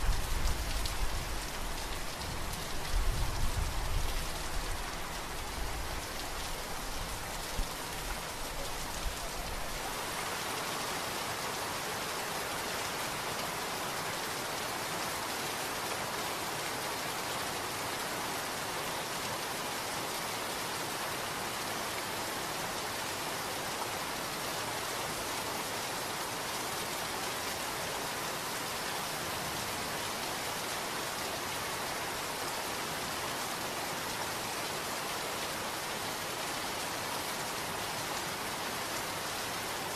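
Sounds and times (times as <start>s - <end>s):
steady pouring rain: 0.0s - 39.9s.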